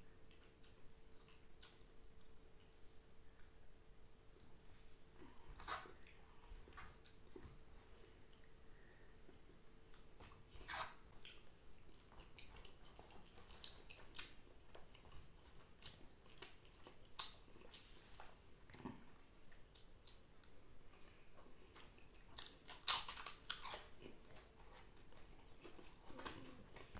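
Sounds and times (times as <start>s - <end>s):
person chewing and smacking: 0.2s - 8.6s, 9.3s - 26.9s.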